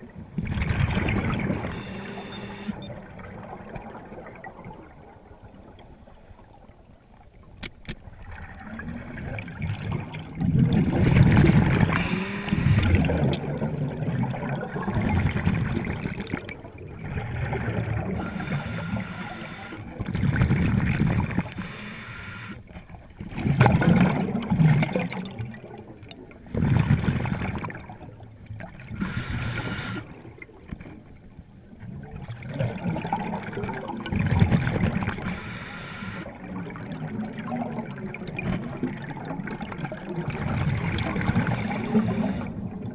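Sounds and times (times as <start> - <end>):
water gurgling: 0.0 - 6.1, 6.9 - 42.9.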